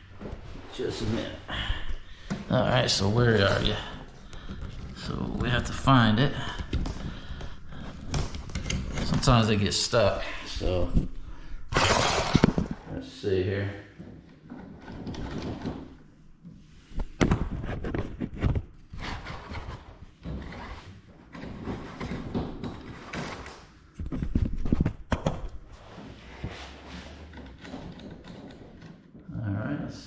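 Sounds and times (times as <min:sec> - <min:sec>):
cable scraping and rustling: 0:02.3 - 0:11.2, 0:12.2 - 0:29.4.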